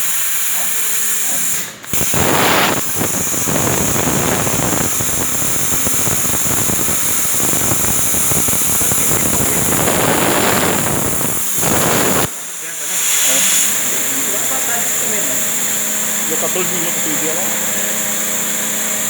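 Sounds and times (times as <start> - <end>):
plasma cutter crackling hiss: 0.0 - 19.0
torch air hiss: 0.0 - 19.0.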